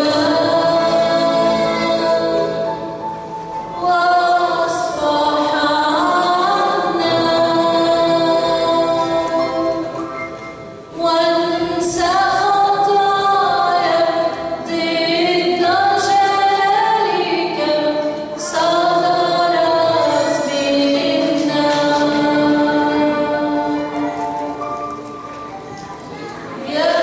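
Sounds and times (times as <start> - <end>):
choir singing a hymn: 0.0 - 25.5, 26.5 - 27.0.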